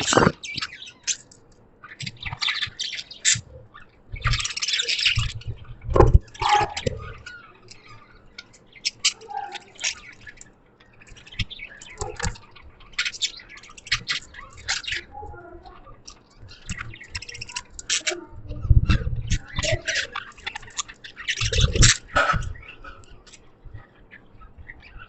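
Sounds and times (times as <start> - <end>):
budgerigars chirping: 0.0 - 25.0.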